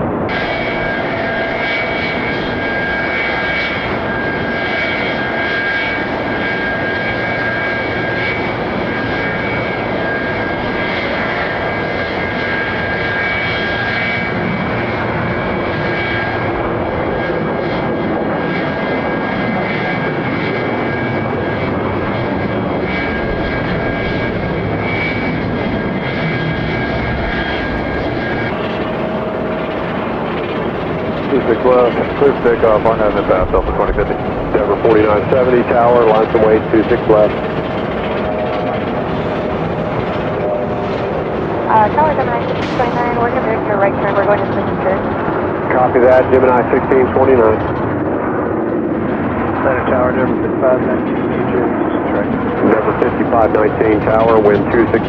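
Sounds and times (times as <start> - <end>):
helicopter engine and rotor: 0.0 - 55.0
high turbine whine: 0.0 - 55.0.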